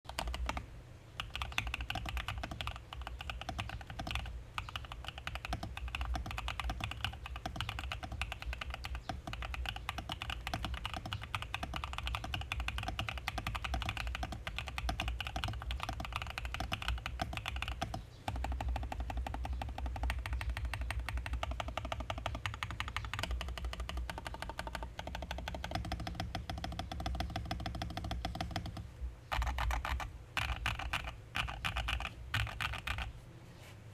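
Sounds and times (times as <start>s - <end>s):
mechanical keyboard typing: 0.0s - 0.6s, 1.2s - 33.2s.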